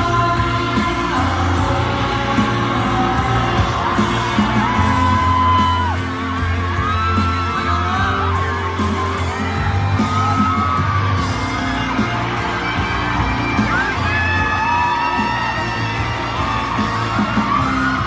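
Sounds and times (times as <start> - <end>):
audience screaming and whooping: 0.0 - 18.0
live pop band music: 0.0 - 18.0.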